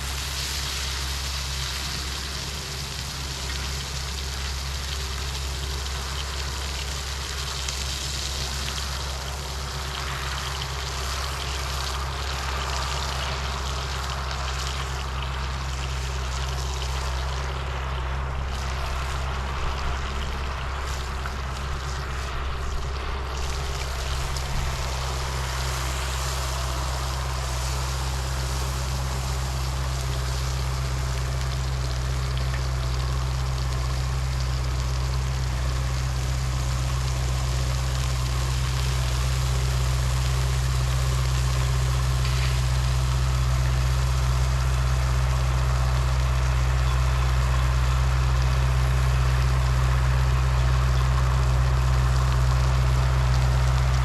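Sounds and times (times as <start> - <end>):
large engine humming: 0.0 - 54.0.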